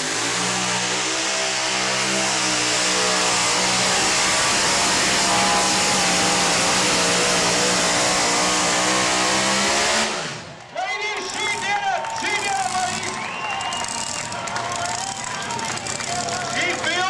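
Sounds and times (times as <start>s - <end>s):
truck engine running hard: 0.0s - 10.7s, 11.3s - 17.0s.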